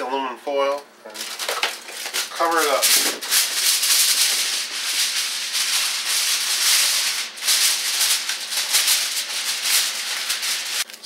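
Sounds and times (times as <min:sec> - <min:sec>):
aluminum foil crinkling: 0:01.1 - 0:11.0.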